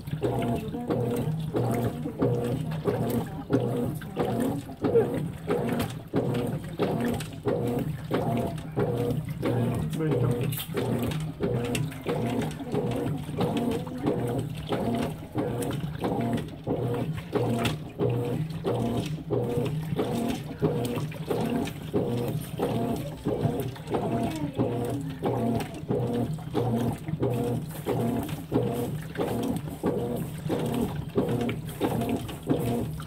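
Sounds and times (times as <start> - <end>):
agitator swishing water and clothes: 0.0 - 33.0
washing machine motor humming: 0.0 - 33.0.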